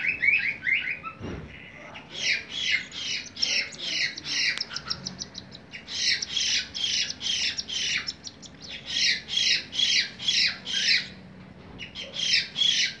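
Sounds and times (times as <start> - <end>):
bird nestlings begging calls: 1.6 - 11.2, 11.8 - 13.0.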